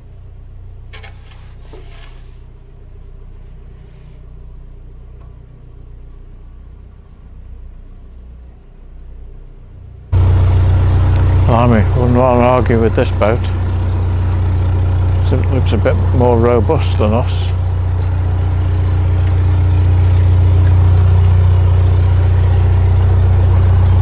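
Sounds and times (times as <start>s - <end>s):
diesel boat engine throbbing: 2.6s - 24.0s.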